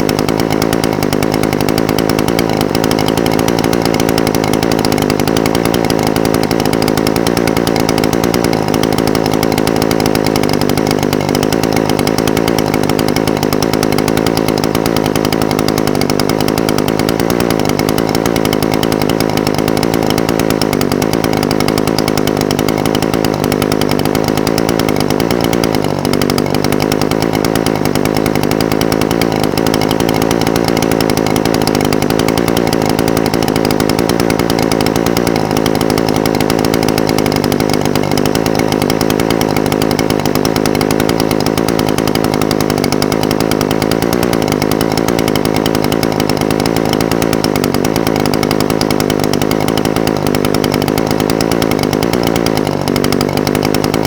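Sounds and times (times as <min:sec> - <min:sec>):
brush cutter engine idling: 0:00.0 - 0:54.0.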